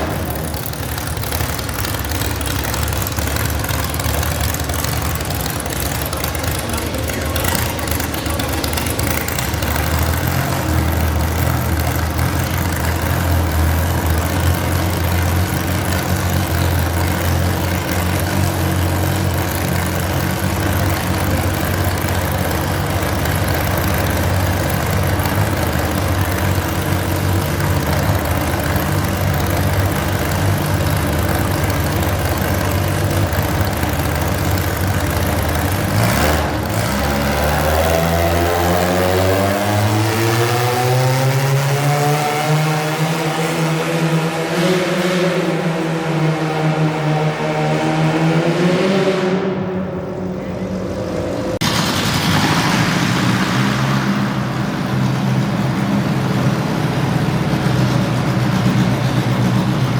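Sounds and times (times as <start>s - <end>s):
tractor engine idling and revving: 0.0s - 59.9s.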